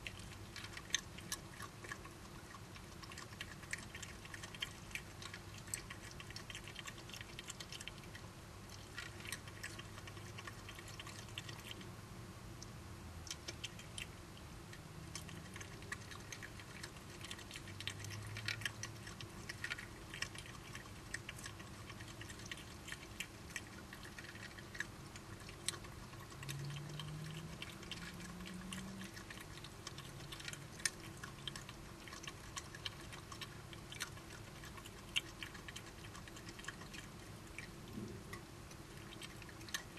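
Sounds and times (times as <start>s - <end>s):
badgers chewing food: 0.0s - 12.0s, 13.2s - 39.9s
low steady hum: 0.0s - 39.9s.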